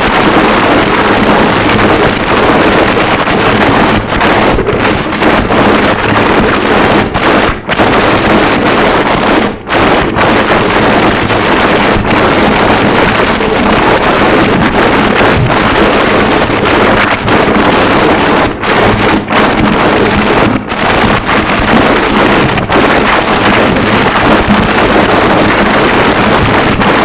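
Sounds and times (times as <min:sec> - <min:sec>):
harsh static noise wall: 0:00.0 - 0:27.0.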